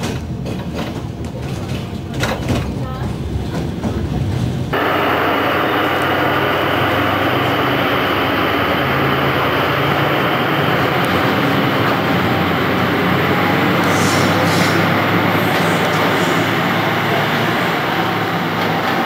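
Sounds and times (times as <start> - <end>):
diesel locomotive engine droning: 0.0 - 19.0
moving train noise: 0.0 - 19.0.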